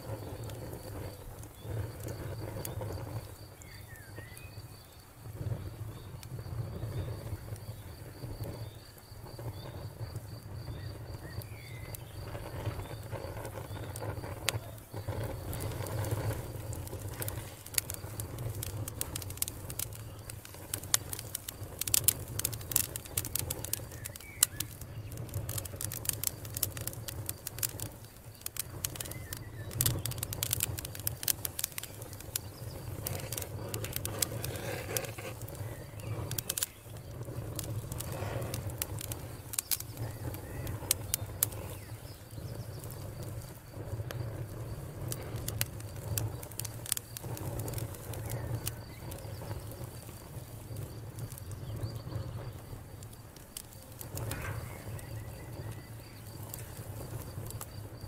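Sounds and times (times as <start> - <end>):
campfire crackling: 0.0 - 58.0
fire snaps and pops: 0.0 - 58.0.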